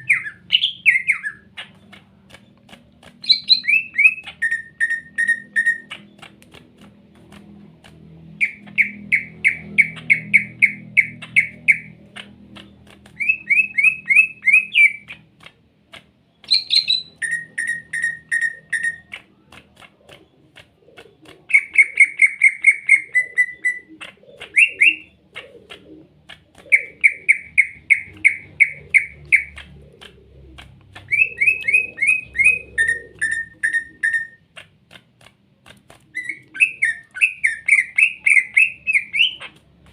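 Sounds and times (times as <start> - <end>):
bird chirping rapidly: 0.0 - 7.3, 8.2 - 15.4, 16.2 - 34.7, 36.1 - 39.9.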